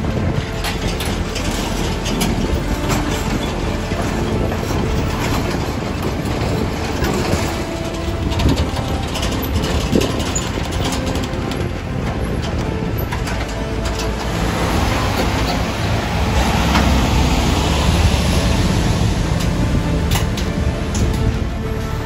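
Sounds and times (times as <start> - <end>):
trucks driving slowly past: 0.0 - 22.0.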